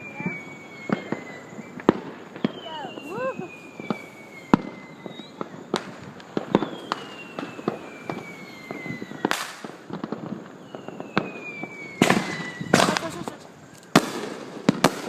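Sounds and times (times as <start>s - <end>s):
firework whistle falling in pitch: 0.0s - 9.6s, 10.6s - 13.3s
firework bangs and pops: 0.0s - 15.0s
firework burst: 0.0s - 15.0s.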